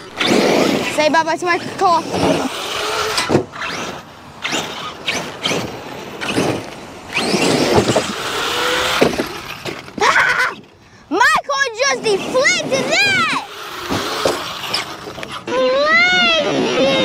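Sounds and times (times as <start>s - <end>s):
electric motor whine: 0.0s - 10.7s, 12.2s - 17.0s
tyres throwing dirt: 0.0s - 10.7s, 12.2s - 15.5s.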